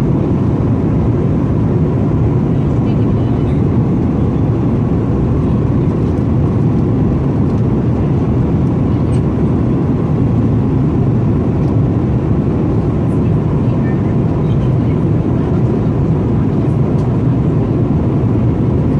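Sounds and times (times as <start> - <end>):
airplane engine rumble in cabin: 0.0 - 18.9.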